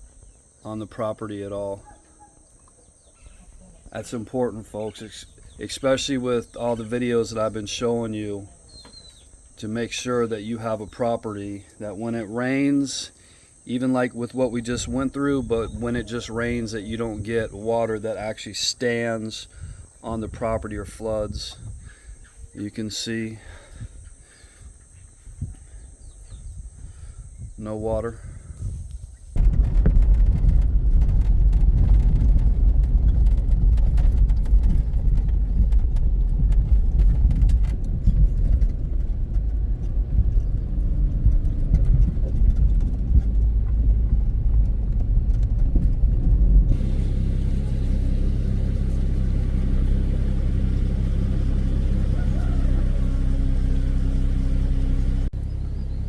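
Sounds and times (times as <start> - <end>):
road noise: 0.0 - 25.2, 27.6 - 56.0
car engine rumble: 3.1 - 56.0.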